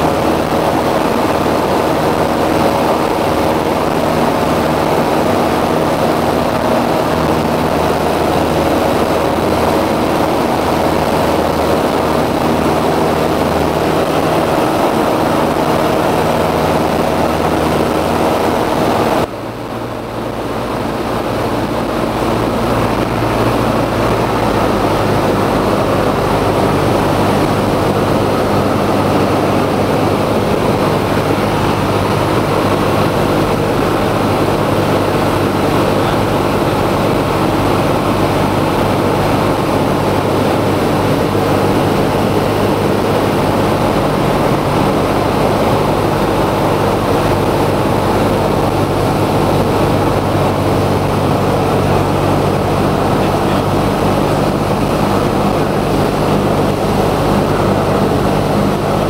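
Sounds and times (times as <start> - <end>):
aircraft engine droning: 0.0 - 59.0
airflow rushing over cabin: 0.0 - 59.0.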